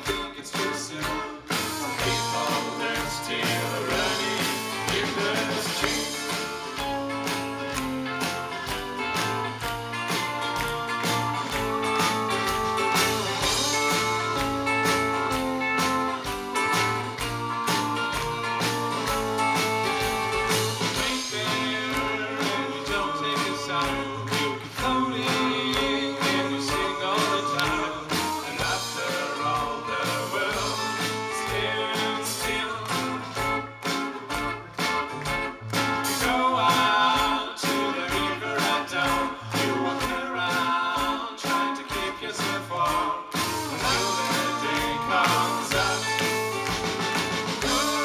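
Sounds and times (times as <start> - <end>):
people singing: 0.0 - 33.6, 36.0 - 48.0
guitars playing rhythmic beat: 0.0 - 48.0.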